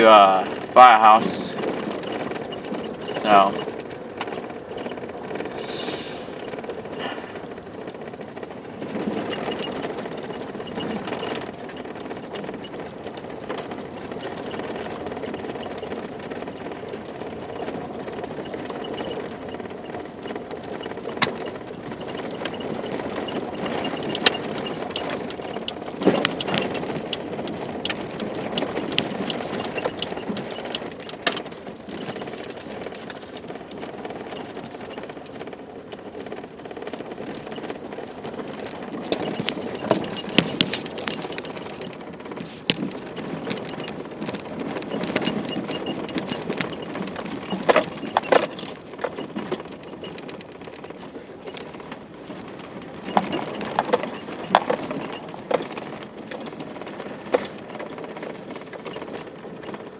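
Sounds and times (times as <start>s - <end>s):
vehicle road and cabin noise: 0.0s - 59.9s
clicks and rattles: 6.4s - 59.9s.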